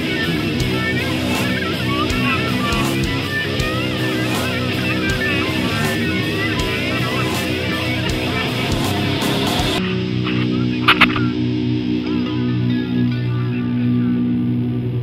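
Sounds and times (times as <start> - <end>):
rock music with electric guitar: 0.0 - 15.0.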